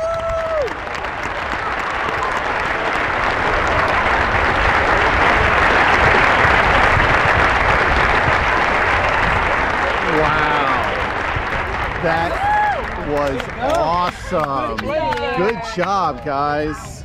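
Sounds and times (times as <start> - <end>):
spectators applauding: 0.0 - 17.0.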